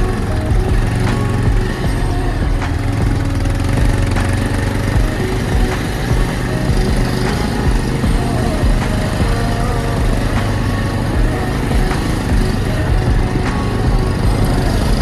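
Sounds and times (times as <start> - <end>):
constant rushing noise: 0.0 - 15.0
motorcycle engine humming: 0.0 - 15.0.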